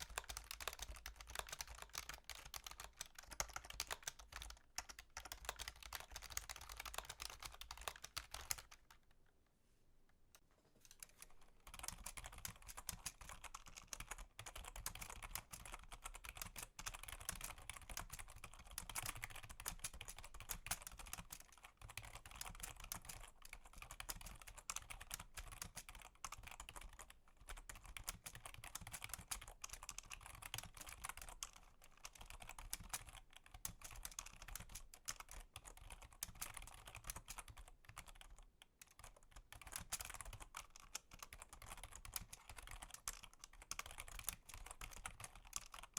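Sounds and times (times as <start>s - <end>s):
fast keyboard typing: 0.0s - 9.0s, 10.9s - 45.9s.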